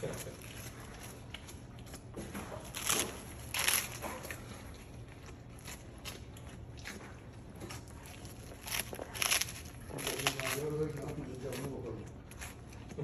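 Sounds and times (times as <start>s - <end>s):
dog crunching lettuce: 0.0s - 13.0s.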